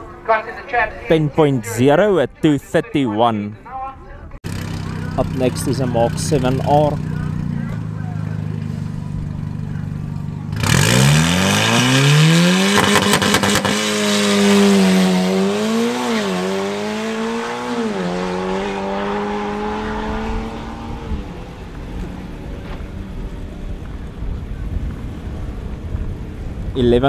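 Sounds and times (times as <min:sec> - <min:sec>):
exhaust cracks: 0:04.4 - 0:26.8
car engine launching: 0:04.5 - 0:26.6.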